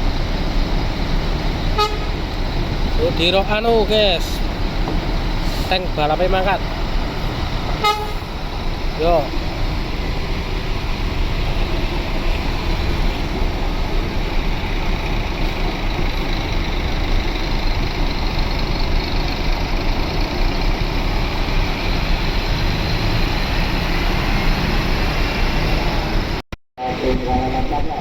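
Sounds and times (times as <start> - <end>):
bus engine rumble: 0.0 - 28.0
road noise: 0.0 - 28.0.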